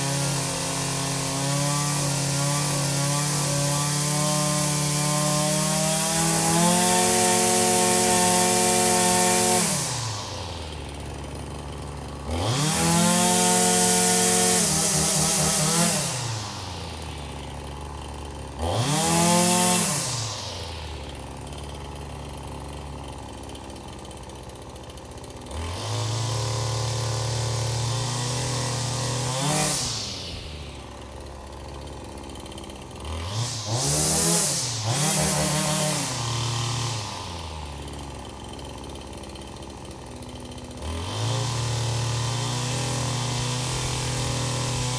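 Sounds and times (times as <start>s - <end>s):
small engine revving: 0.0s - 44.9s.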